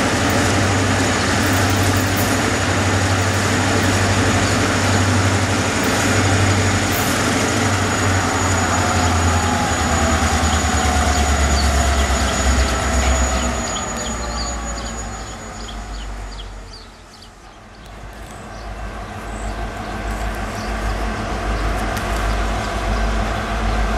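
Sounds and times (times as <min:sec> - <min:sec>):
diesel locomotive engine droning: 0:00.0 - 0:23.9.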